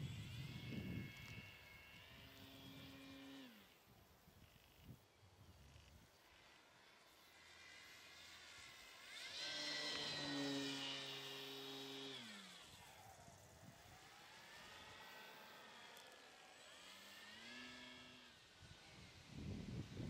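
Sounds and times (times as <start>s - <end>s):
electric model airplane motor whine: 0.0s - 20.0s.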